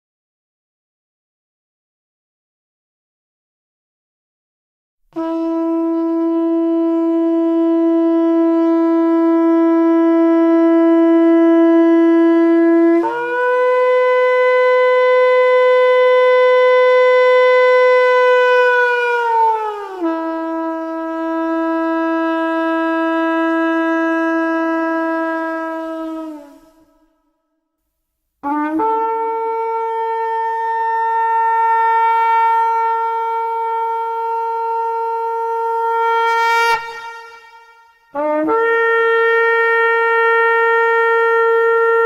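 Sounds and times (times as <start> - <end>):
shofar long blasts: 5.2 - 27.1, 28.4 - 42.0.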